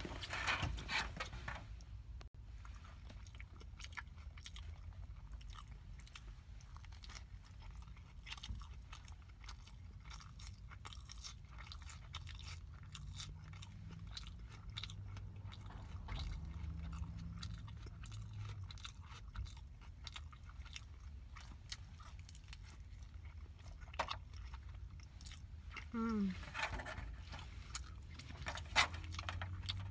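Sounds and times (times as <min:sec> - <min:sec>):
person chewing with wet smacks: 0:01.8 - 0:26.4, 0:27.3 - 0:29.9.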